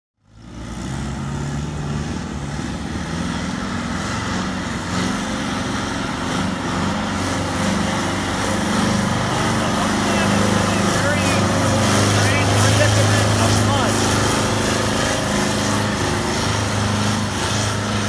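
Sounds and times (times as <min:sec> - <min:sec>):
tractor engine running under load: 0:00.2 - 0:18.0.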